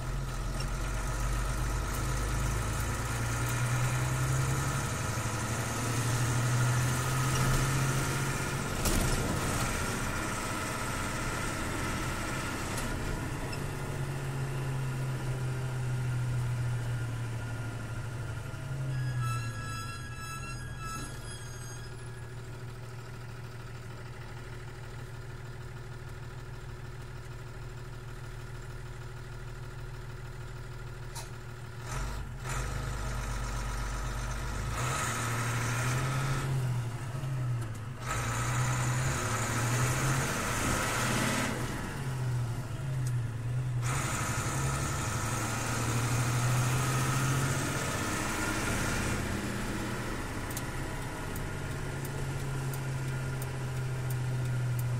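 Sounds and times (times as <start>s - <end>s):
diesel truck engine running: 0.0s - 18.9s, 20.4s - 54.9s.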